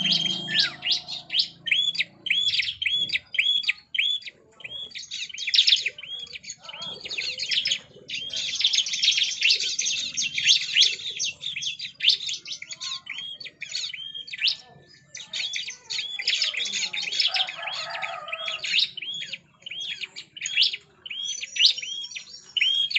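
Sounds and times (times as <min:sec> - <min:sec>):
bird singing rapid sharp chirps: 0:00.0 - 0:22.9.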